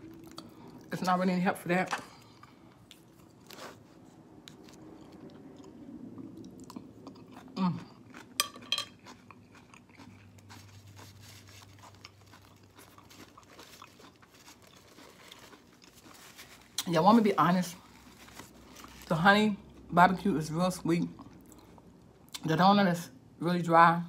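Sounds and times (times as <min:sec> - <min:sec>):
person chewing food: 0:00.0 - 0:00.9, 0:02.0 - 0:16.9, 0:17.8 - 0:19.9, 0:21.0 - 0:22.4.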